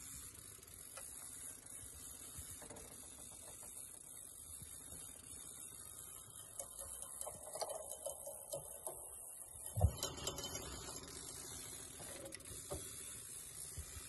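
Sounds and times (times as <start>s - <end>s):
fishing reel clicking and whirring: 0.0s - 14.0s.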